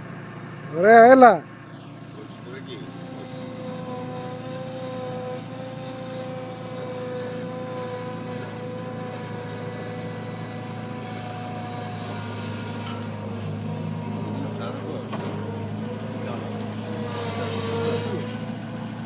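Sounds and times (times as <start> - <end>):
loader engine drone: 0.0 - 19.0.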